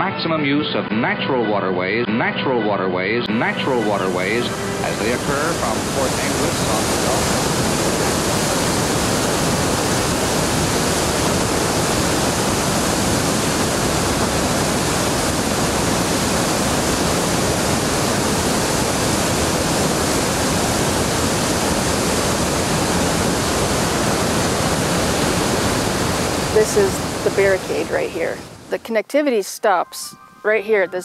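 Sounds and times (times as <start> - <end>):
water rushing through dam gates: 3.5 - 28.6.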